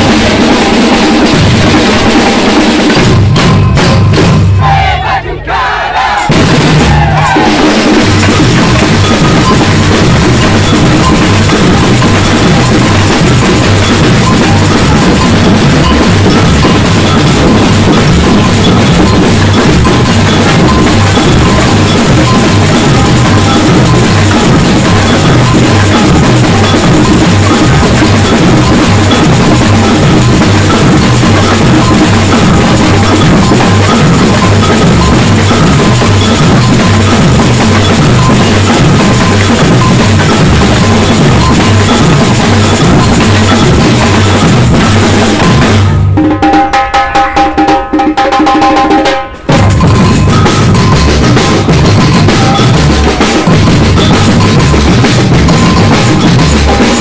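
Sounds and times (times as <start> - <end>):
samba drum band playing: 0.0 - 57.0
deep bass drums: 6.3 - 46.2, 49.5 - 57.0.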